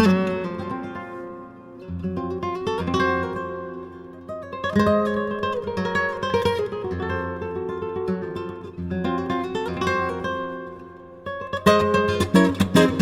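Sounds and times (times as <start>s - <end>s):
acoustic guitar plucked notes: 0.0s - 13.0s
acoustic guitar strummed chords: 0.0s - 13.0s.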